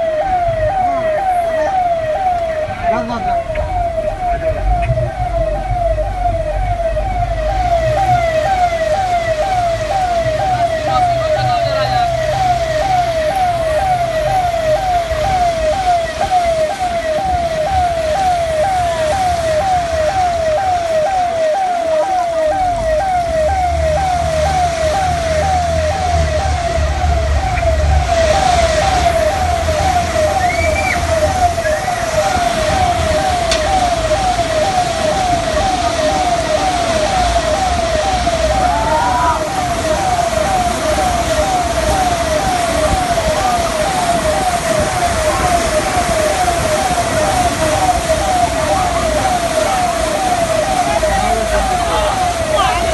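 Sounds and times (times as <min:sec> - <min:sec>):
siren sweeping in pitch: 0:00.0 - 0:52.9.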